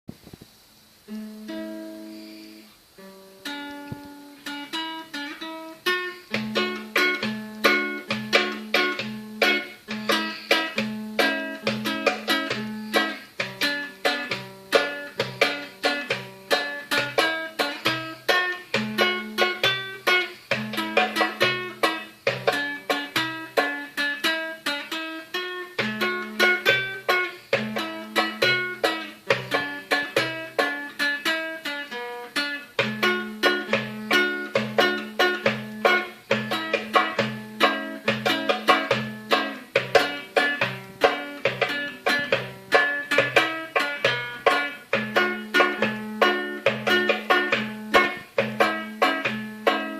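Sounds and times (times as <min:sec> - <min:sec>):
plucked guitar melody: 0:01.1 - 0:49.9.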